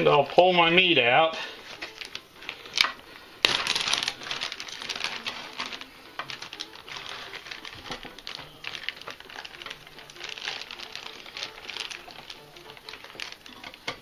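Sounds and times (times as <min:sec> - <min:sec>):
plastic bag crinkling: 0:01.6 - 0:14.0.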